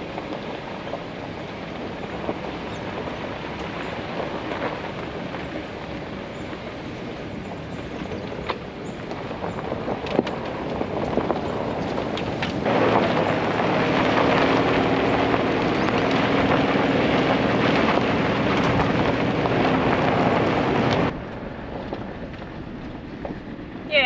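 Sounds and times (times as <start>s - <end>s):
car engine running: 0.0s - 24.0s
tyres rolling over gravel: 0.0s - 24.0s
wind on microphone: 0.0s - 24.0s.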